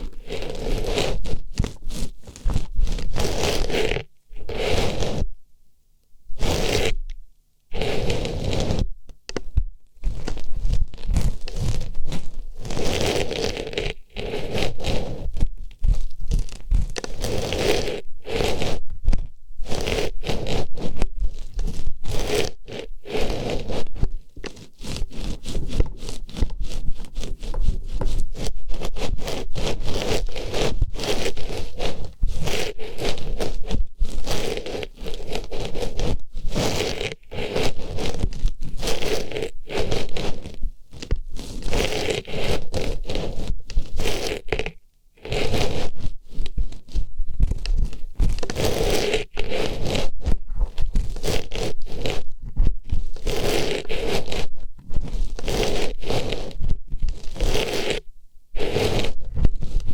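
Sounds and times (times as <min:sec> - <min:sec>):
scratchy rustling in ear: 0:00.0 - 0:05.4, 0:06.3 - 0:59.9.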